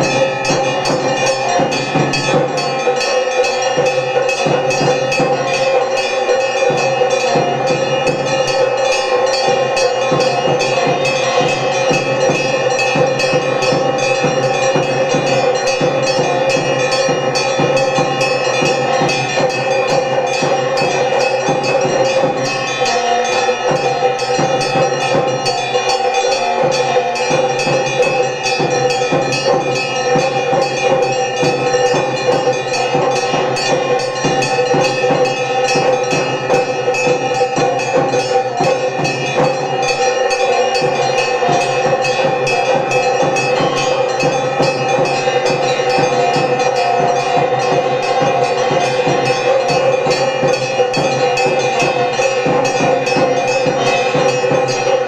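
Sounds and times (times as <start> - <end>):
bells ringing rapidly: 0.0 - 55.0.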